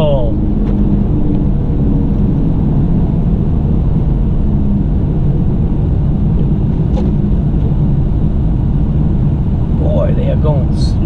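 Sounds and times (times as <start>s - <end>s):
road noise: 0.0s - 11.0s
truck engine rumbling: 0.0s - 11.0s.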